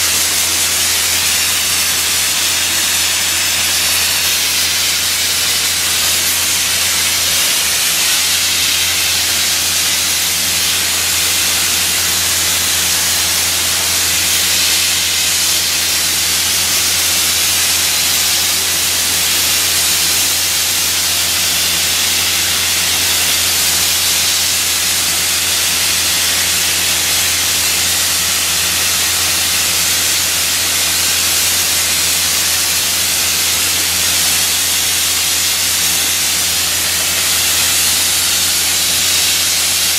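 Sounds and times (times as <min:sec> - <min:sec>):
dry ice blasting nozzle hissing: 0:00.0 - 0:39.9.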